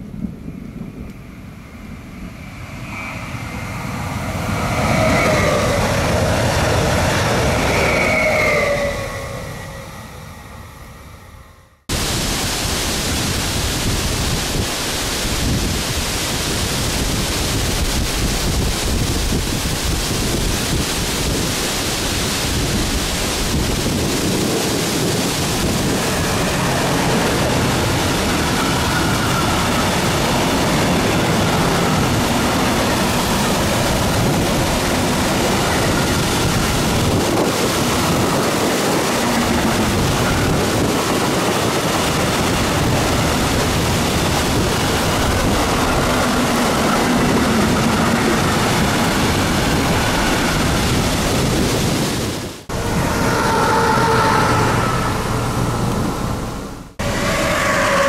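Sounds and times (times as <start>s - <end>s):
train wheels rushing on rails: 0.0s - 11.2s, 11.9s - 58.0s.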